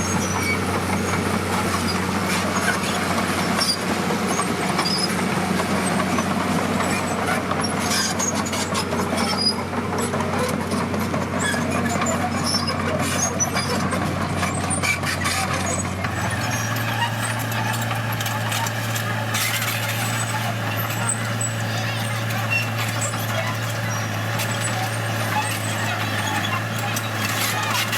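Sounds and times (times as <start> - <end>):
diesel machinery running: 0.0 - 27.9.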